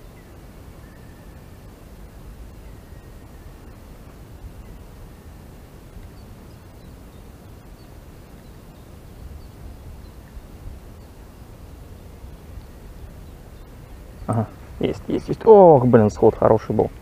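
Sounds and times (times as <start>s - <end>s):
faint high chirps: 0.0s - 17.0s
wind rumble on microphone: 0.0s - 17.0s.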